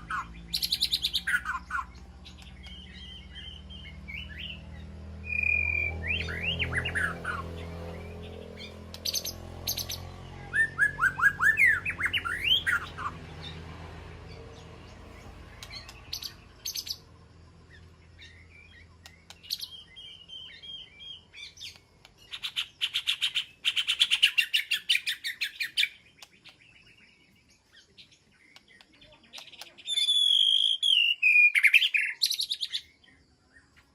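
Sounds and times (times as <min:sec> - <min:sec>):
bird singing whistles and trills: 0:00.0 - 0:13.7, 0:14.3 - 0:33.9.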